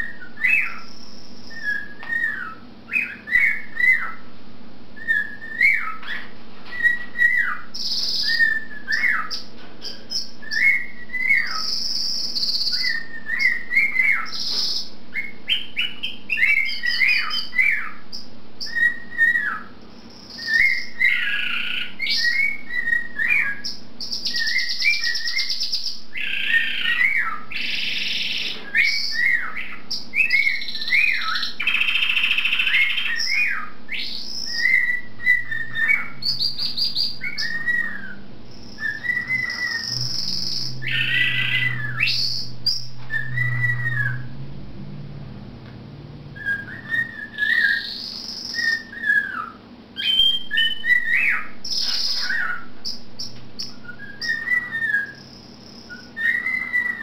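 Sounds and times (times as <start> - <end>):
cockatiel whistling: 0.0 - 4.2, 5.0 - 18.0, 18.6 - 19.7, 20.3 - 44.4, 46.3 - 52.7, 53.6 - 57.0
canary trilling: 0.0 - 4.3, 4.9 - 45.4, 46.2 - 57.0.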